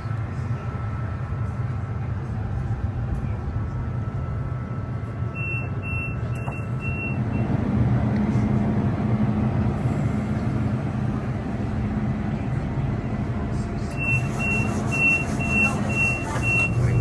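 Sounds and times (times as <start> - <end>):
tram rumble: 0.0 - 17.0.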